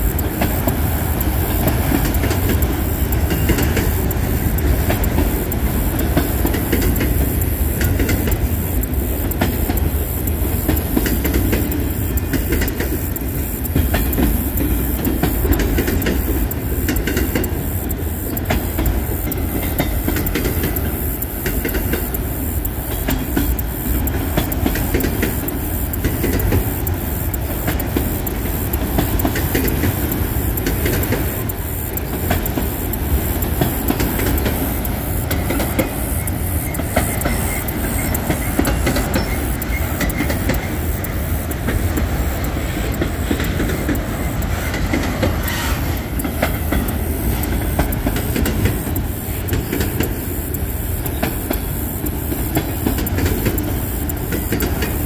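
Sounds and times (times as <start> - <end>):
low train rumble: 0.0 - 55.0
train wheels clacking on rails: 0.0 - 55.0.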